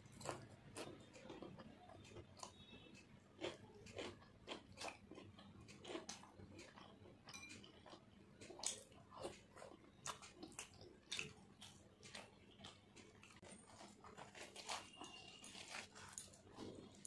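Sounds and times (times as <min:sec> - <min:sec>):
sticky chewing clicks: 0:00.0 - 0:17.0.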